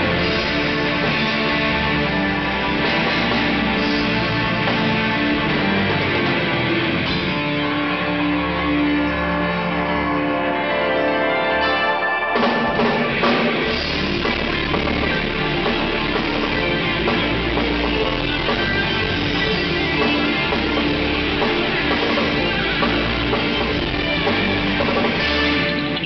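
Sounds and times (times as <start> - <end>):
drum kit: 0.0 - 10.2, 11.6 - 26.0
bass guitar: 0.0 - 26.0
electric guitar: 0.0 - 26.0
keyboards: 0.0 - 26.0.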